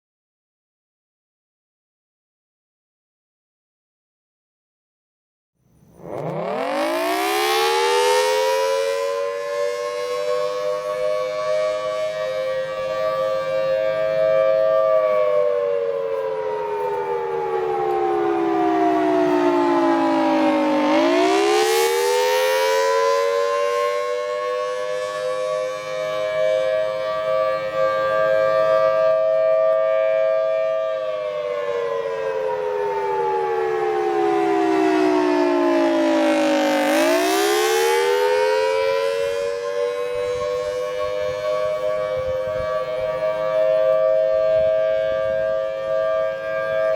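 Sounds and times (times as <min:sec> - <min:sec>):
warning siren wailing: 0:05.8 - 0:46.9.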